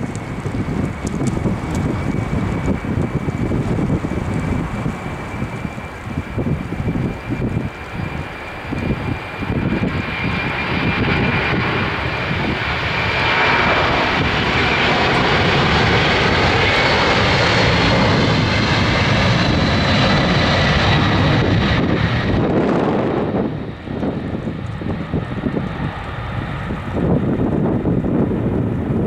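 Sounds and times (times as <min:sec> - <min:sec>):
jet engine roar with fan whine: 0:00.0 - 0:29.0.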